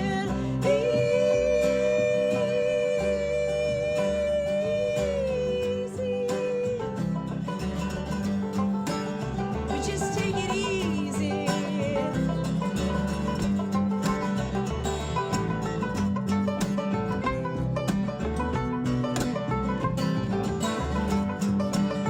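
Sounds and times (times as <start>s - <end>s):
acoustic string band playing: 0.0s - 22.0s
banjo: 0.0s - 22.0s
bass line: 0.0s - 22.0s
plucked guitar: 0.0s - 22.0s
sliding held melody notes: 0.0s - 22.0s.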